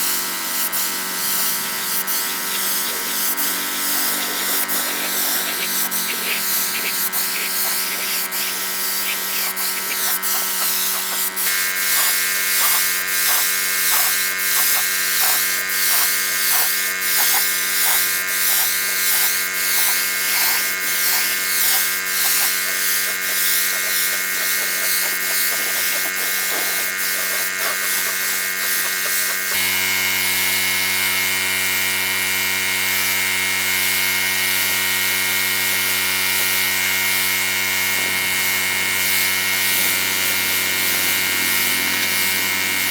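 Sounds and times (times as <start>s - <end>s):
power tool motor whining: 0.0s - 42.9s.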